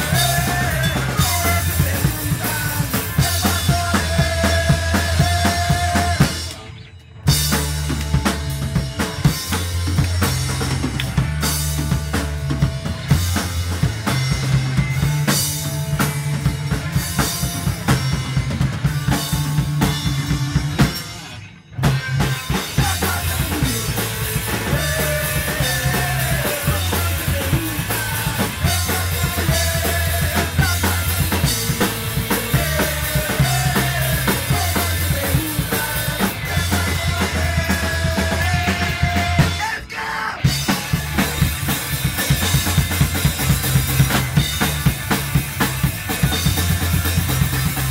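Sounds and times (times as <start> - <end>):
live rock band playing: 0.0 - 47.9.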